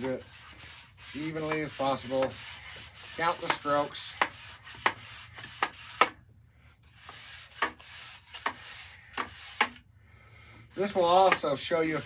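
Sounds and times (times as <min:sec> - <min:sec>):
sanding board rasping on metal: 0:00.0 - 0:06.2, 0:06.9 - 0:09.8, 0:10.7 - 0:12.0.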